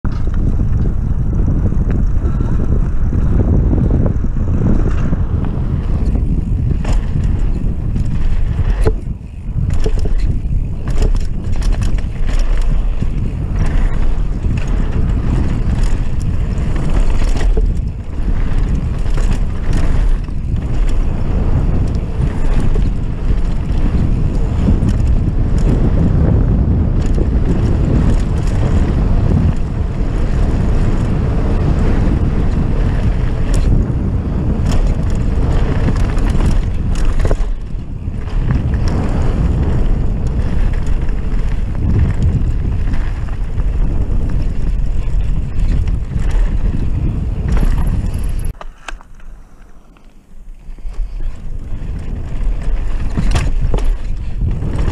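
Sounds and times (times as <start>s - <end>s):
bike clicks and rattles: 0.0s - 54.9s
bike tyres rolling on gravel: 0.0s - 54.9s
wind buffeting microphone: 0.0s - 54.9s.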